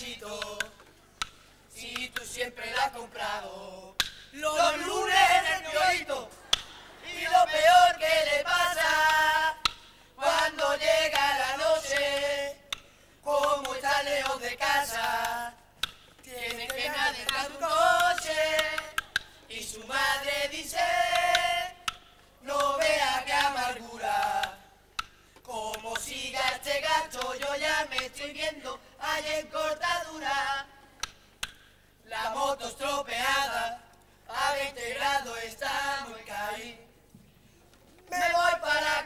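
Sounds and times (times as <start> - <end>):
voices singing together: 0.0 - 31.2, 32.0 - 37.1, 37.9 - 39.0.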